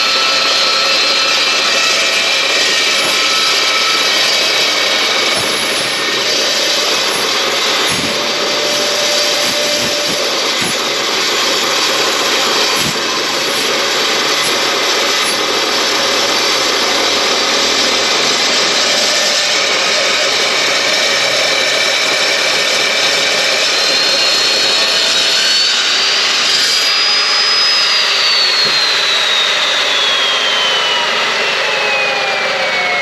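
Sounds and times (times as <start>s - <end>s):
chop saw cutting steel: 0.0s - 32.0s.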